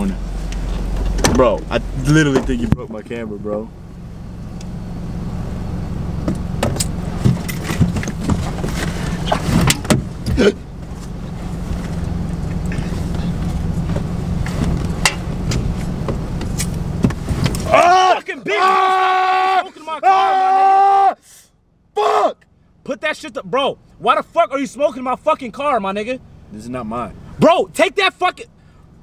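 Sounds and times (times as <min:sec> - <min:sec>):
car engine rumble in cabin: 0:00.0 - 0:21.0, 0:21.6 - 0:29.0.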